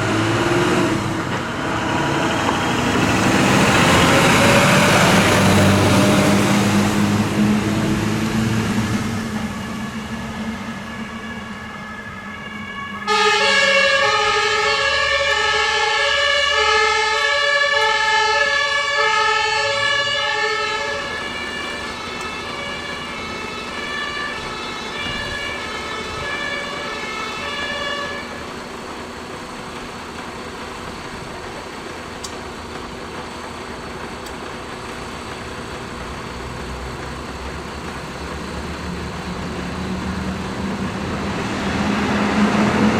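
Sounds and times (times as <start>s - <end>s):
fire engine two-tone siren: 0.0s - 32.3s, 33.7s - 42.9s
engine and traffic noise: 0.0s - 42.9s.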